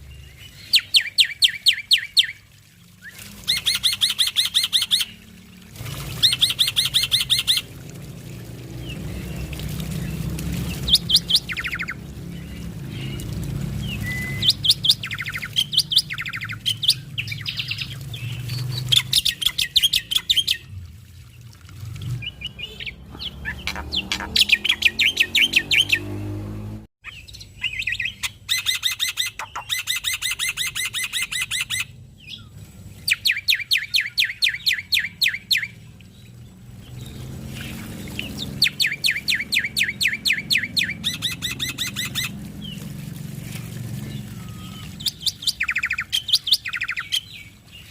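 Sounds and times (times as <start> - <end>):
bird chattering song: 0.2 - 2.4, 3.0 - 5.2, 6.2 - 7.7, 8.8 - 20.7, 22.2 - 26.1, 27.0 - 32.5, 33.1 - 35.8, 37.0 - 42.8, 44.1 - 47.9.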